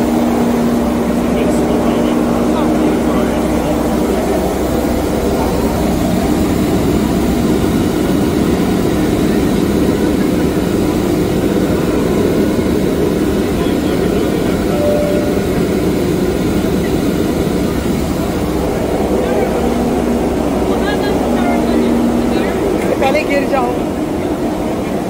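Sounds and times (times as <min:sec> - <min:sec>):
aircraft cabin drone: 0:00.0 - 0:25.0.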